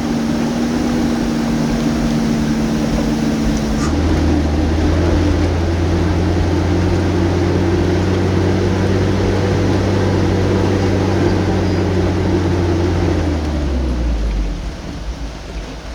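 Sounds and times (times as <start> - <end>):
noisy hiss: 0.0 - 15.9
vehicle engine low drone: 0.0 - 15.9.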